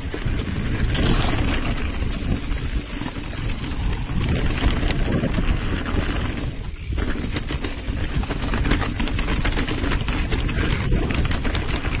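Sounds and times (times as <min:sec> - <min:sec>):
bike rattling and knocking: 0:00.0 - 0:12.0
wind rumbling on microphone: 0:00.0 - 0:12.0.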